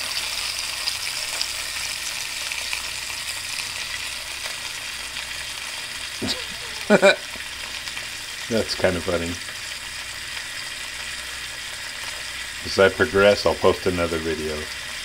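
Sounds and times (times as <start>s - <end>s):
steaks sizzling in a frying pan: 0.0s - 15.0s.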